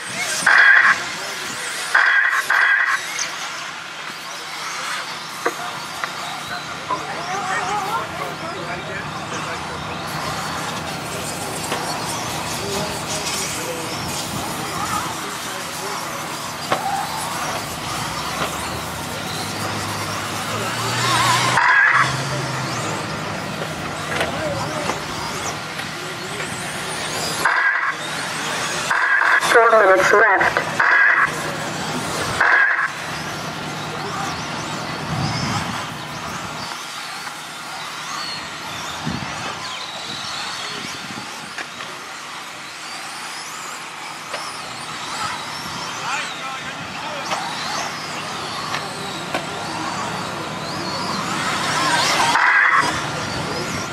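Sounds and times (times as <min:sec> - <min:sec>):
small electric motors racing: 0:00.0 - 0:53.9.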